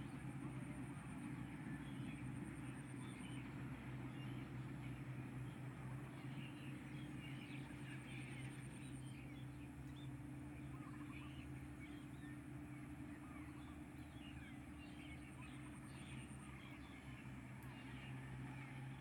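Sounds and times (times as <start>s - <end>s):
faint engine humming: 0.0s - 19.0s
small birds chirping: 1.7s - 18.8s.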